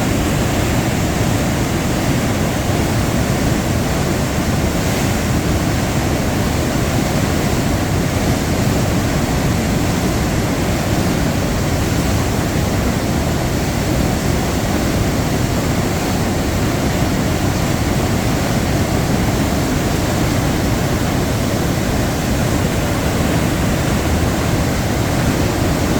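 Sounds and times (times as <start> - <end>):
waterfall roaring: 0.0 - 25.9.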